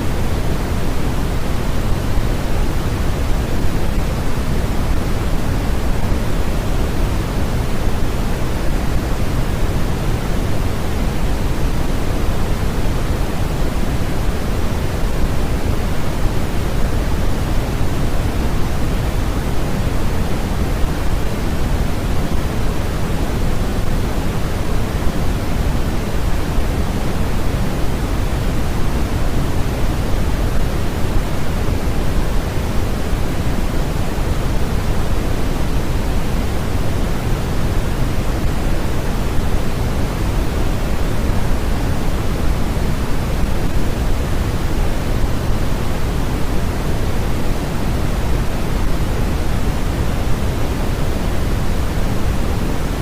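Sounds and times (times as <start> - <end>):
steady generated noise hiss: 0.0 - 53.0.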